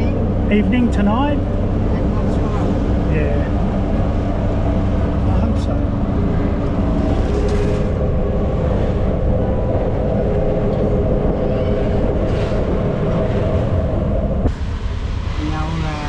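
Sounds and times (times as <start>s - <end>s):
motor vehicle engine and road noise: 0.0s - 16.0s.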